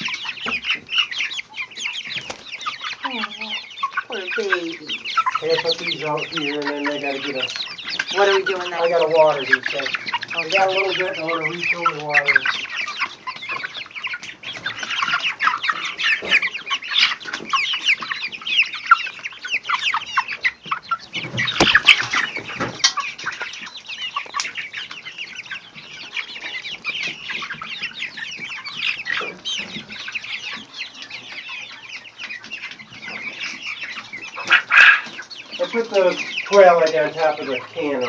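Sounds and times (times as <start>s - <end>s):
chicks peeping and clucking: 0.0s - 38.0s.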